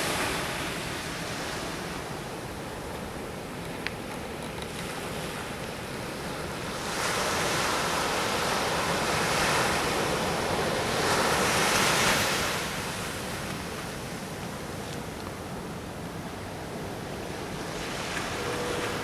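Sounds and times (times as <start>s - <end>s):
waves breaking on a beach: 0.0s - 19.0s.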